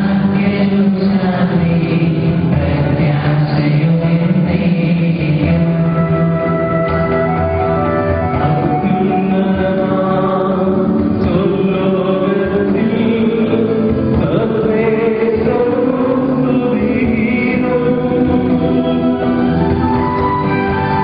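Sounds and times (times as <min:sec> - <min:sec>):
hymn singing: 0:00.0 - 0:21.0
instrumental accompaniment: 0:00.0 - 0:21.0.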